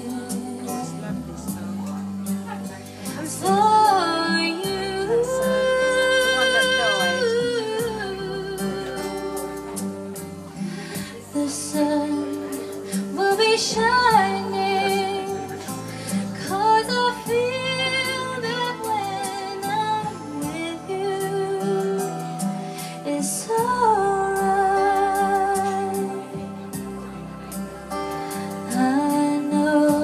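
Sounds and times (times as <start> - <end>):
woman singing a slow ballad: 0.0 - 27.1, 27.9 - 30.0
karaoke backing track: 0.0 - 30.0.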